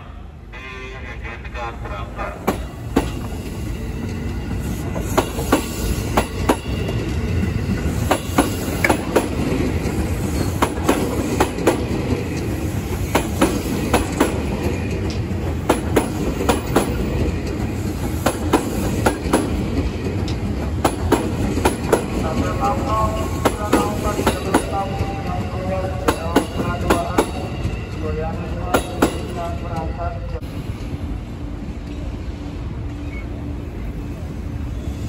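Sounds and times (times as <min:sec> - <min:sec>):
train running gear rumble: 0:02.3 - 0:35.0.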